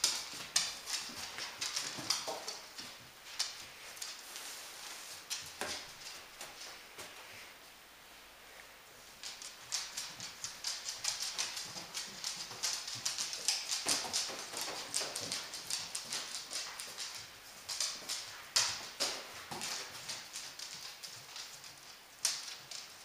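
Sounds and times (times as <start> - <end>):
dog claws clicking on wood floor: 0.0 - 4.3, 5.1 - 7.2, 9.2 - 23.0.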